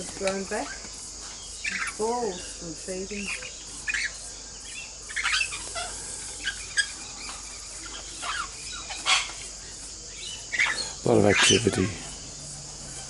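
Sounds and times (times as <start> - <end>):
steady high hiss: 0.0 - 13.0
parrots chirping and squealing: 0.5 - 13.0.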